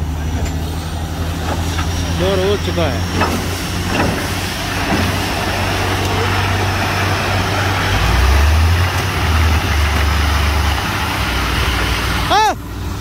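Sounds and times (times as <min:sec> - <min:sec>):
deep engine hum: 0:00.0 - 0:13.0.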